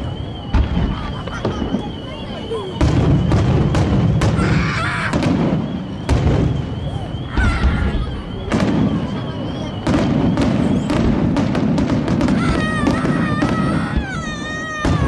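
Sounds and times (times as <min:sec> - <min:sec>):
firework whistles: 0:00.0 - 0:15.0
fireworks bangs and crackling: 0:00.0 - 0:15.0.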